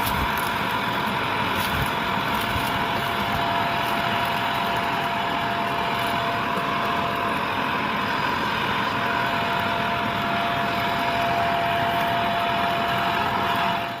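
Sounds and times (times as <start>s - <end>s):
upright vacuum cleaner whine: 0.0s - 14.0s.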